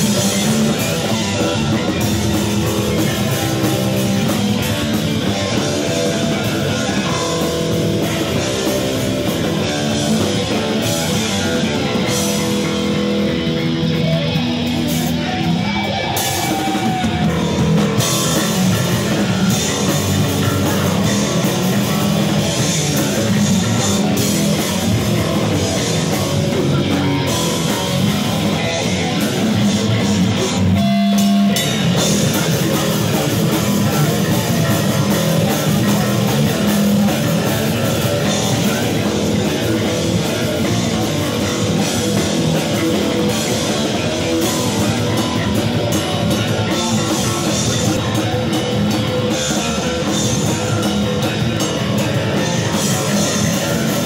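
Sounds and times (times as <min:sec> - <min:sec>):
distorted electric guitars: 0:00.0 - 0:54.0
drum kit: 0:00.0 - 0:54.0
thrash metal band playing live: 0:00.0 - 0:54.0.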